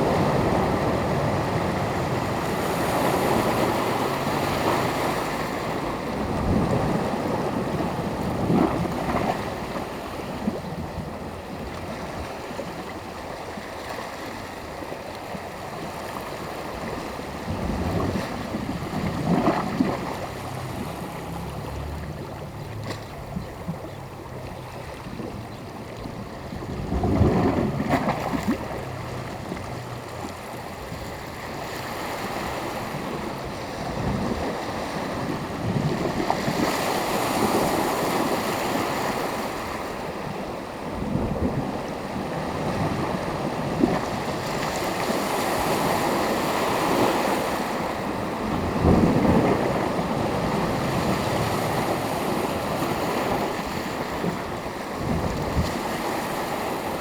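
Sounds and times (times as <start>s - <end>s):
small waves breaking on shore: 0.0s - 57.0s.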